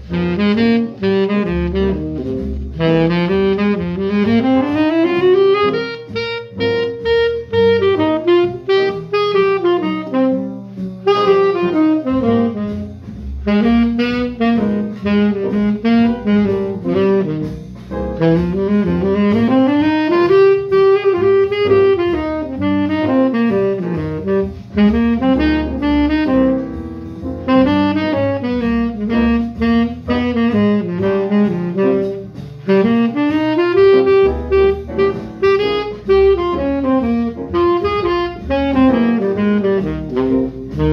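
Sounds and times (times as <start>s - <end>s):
tenor saxophone playing jazz: 0.0s - 40.9s.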